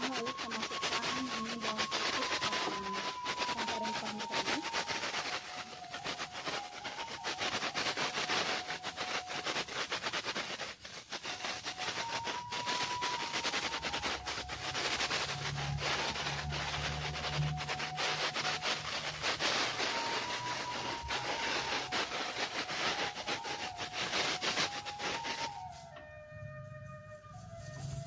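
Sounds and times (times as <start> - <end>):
shallots sizzling in hot oil: 0.0 - 26.0
wooden spatula scraping pan: 0.0 - 26.0.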